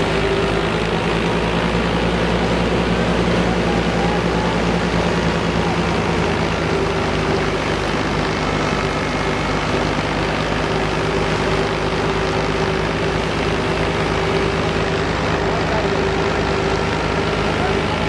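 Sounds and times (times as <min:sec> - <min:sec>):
thresher machine drone: 0:00.0 - 0:18.0.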